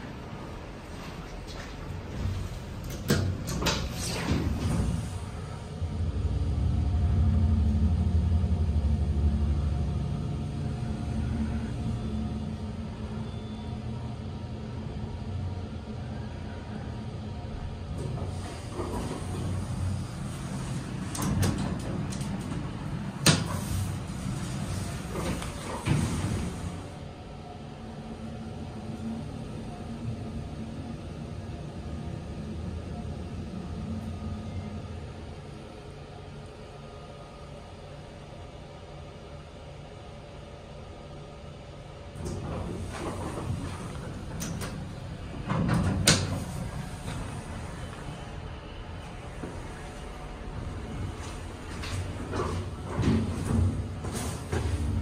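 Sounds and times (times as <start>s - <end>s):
elevator car rumbling: 0.0s - 36.8s, 41.8s - 55.0s.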